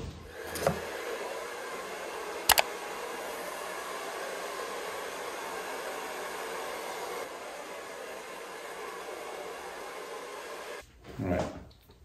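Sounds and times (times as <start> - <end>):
hair dryer blowing: 0.2 - 10.8.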